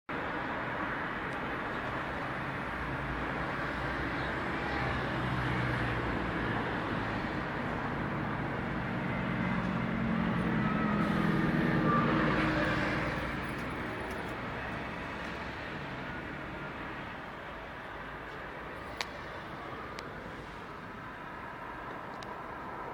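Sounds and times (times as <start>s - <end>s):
steady road hum: 0.1s - 22.9s.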